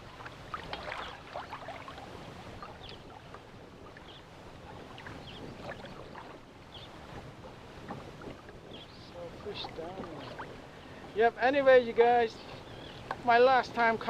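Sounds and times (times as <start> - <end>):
water lapping against kayak hull: 0.0 - 14.0.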